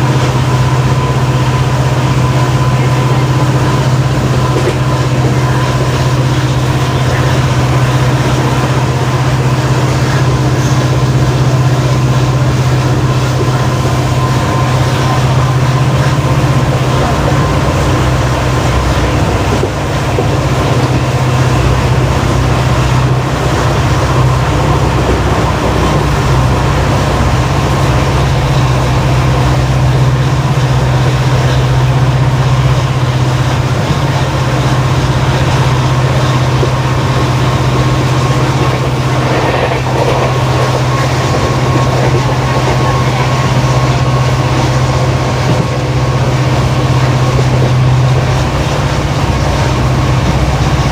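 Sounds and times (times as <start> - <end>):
diesel locomotive engine humming: 0.0 - 50.9
train running noise: 0.0 - 50.9.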